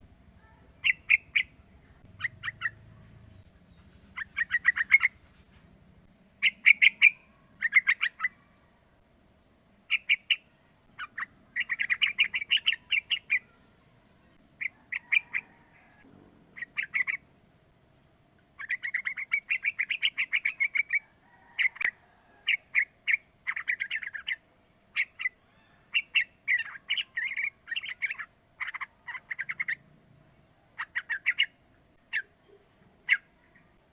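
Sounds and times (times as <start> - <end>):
faint steady hum: 0.0 - 33.9
bird chattering calls: 0.4 - 5.4, 6.4 - 8.5, 9.9 - 13.6, 14.6 - 16.0, 16.6 - 17.3, 18.6 - 29.8, 30.8 - 33.6.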